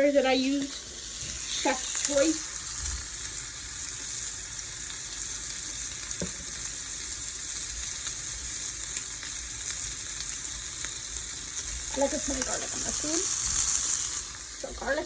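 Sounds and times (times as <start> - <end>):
fish and onions sizzling in pan: 0.0 - 15.0.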